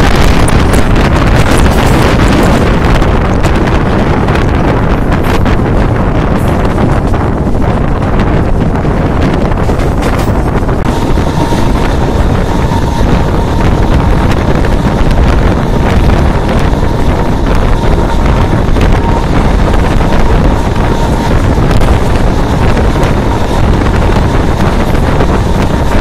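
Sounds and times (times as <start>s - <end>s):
train running noise: 0.0s - 26.0s
wind rushing over microphone: 0.0s - 26.0s.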